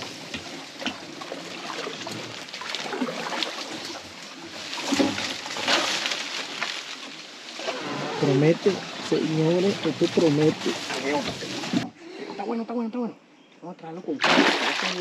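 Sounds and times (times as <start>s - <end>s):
water sloshing around boat: 0.0s - 12.4s.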